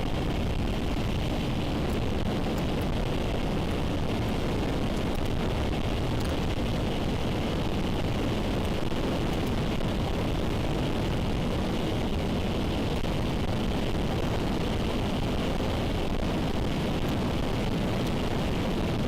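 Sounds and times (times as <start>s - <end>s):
wind noise: 0.0s - 19.0s.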